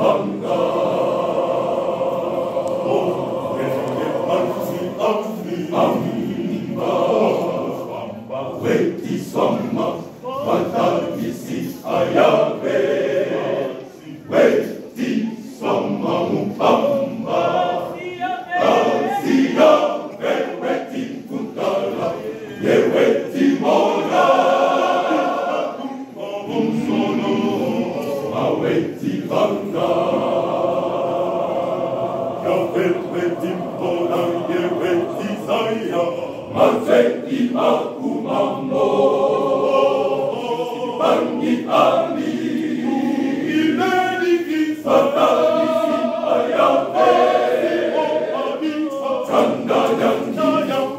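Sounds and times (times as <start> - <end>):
choir singing a hymn: 0.0 - 50.9.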